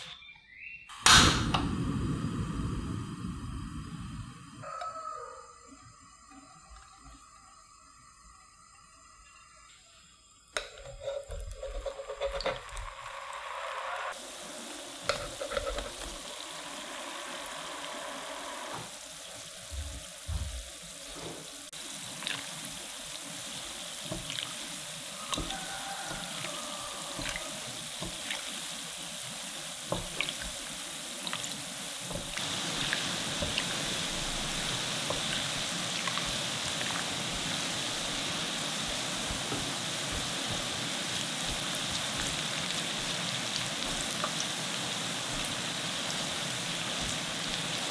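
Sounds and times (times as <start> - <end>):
deep-frying oil sizzling: 0.9 - 47.9.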